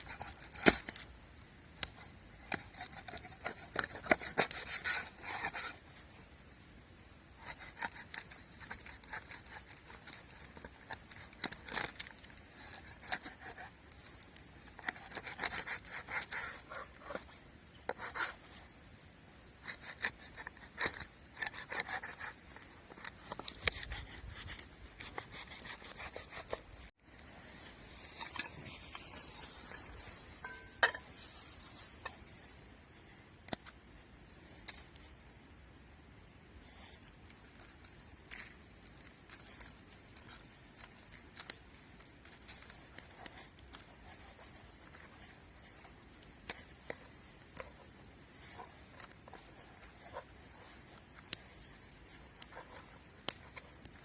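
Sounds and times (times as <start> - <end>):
scraping and rubbing strokes: 0.0 - 33.2, 36.6 - 54.0.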